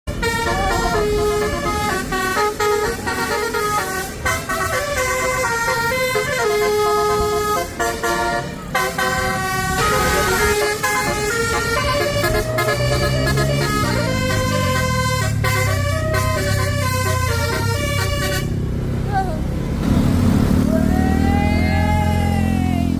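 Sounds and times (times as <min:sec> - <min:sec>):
moving bus noise: 0:00.0 - 0:22.9
musical air horn tune: 0:00.1 - 0:18.6.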